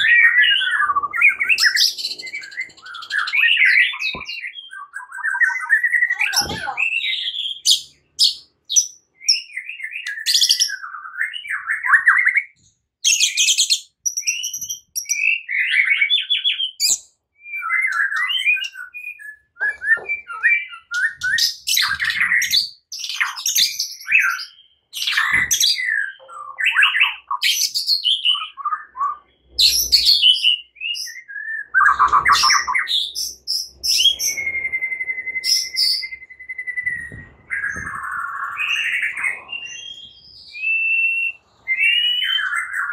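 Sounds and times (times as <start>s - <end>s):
bird singing whistles and trills: 0.0s - 42.9s.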